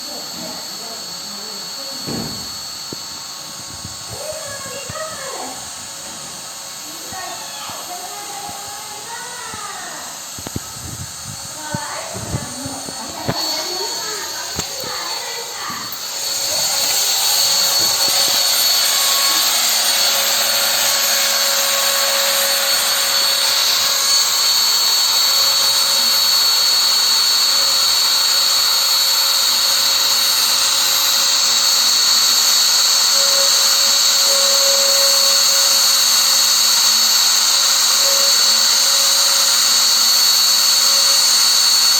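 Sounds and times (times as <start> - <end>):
router spindle whining: 0.0 - 41.9.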